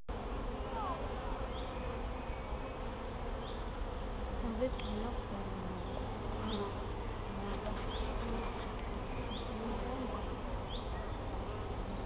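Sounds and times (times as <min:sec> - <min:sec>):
bees buzzing: 0:00.1 - 0:12.0.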